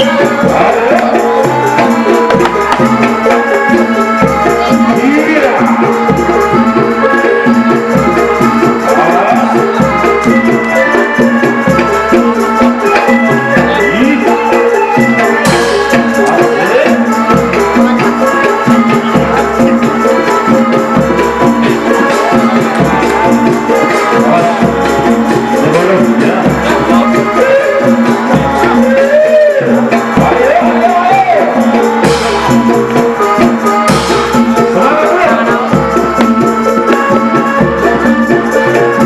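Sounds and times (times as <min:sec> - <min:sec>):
shaker rattling percussion: 0:00.0 - 0:39.0
traditional ensemble music: 0:00.0 - 0:39.0.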